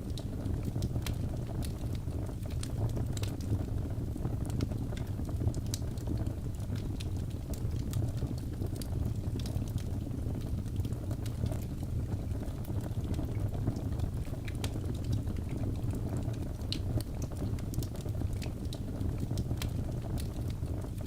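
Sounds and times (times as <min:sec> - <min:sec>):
fire flame rumbling: 0:00.0 - 0:21.0
logs crackling and popping: 0:00.0 - 0:21.0.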